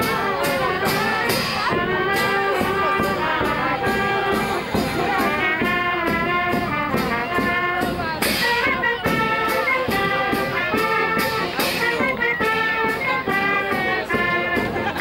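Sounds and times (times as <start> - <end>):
brass band playing dance tune: 0.0 - 15.0
steady drum beat: 0.0 - 15.0.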